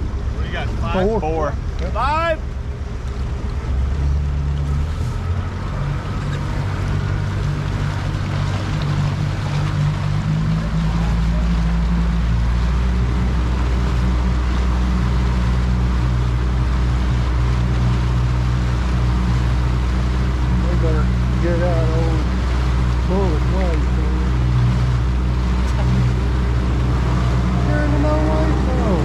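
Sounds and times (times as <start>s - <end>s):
outboard motor running: 0.0s - 29.0s
water noise: 0.0s - 29.0s.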